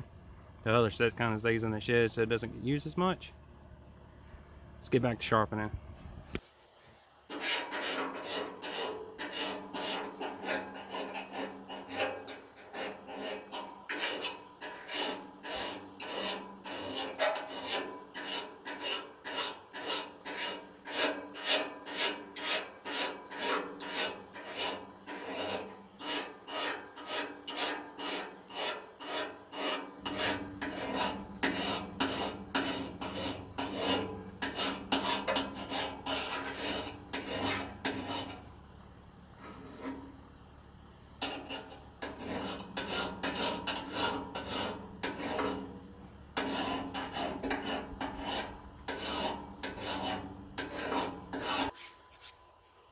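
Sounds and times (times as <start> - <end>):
metal file rasping on steel blade: 7.3 - 38.5, 39.4 - 40.1, 41.2 - 51.8.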